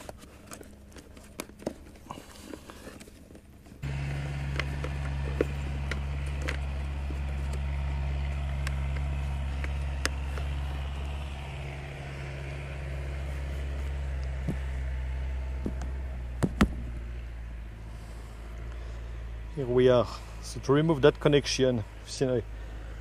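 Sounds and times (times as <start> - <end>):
steady low engine-like hum: 0.0 - 23.0.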